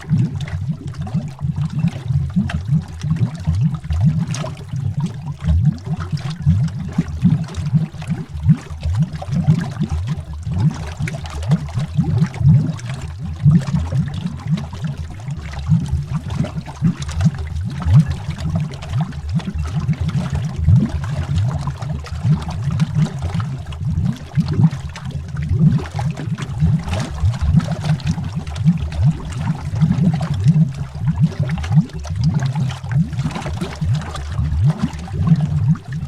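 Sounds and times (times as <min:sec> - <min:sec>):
underwater bubbling: 0:00.0 - 0:36.0.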